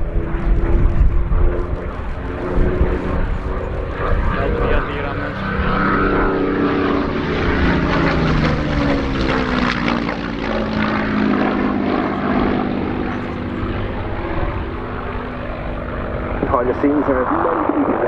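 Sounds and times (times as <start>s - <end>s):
propeller plane engine passing overhead: 0.0s - 18.0s.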